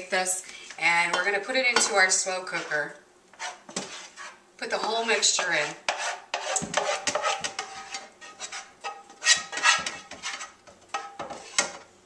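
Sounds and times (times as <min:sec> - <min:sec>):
spatula scraping a frying pan: 0:00.0 - 0:11.9.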